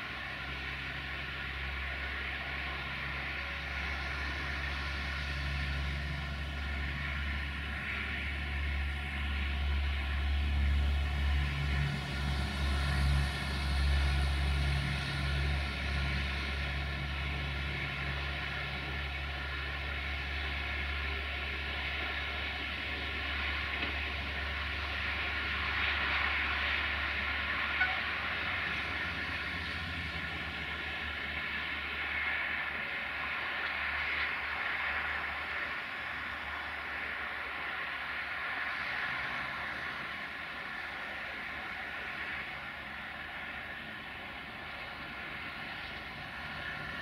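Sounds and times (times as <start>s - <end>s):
train diesel drone: 0.0s - 47.0s.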